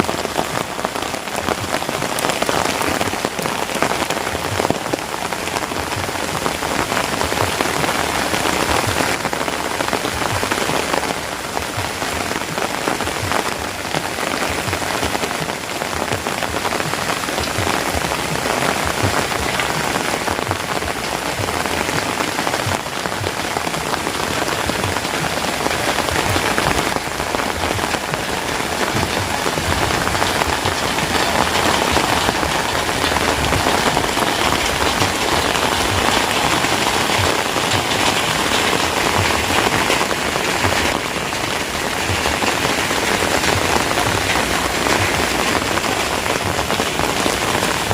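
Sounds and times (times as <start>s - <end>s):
heavy rain in a forest: 0.0s - 47.9s.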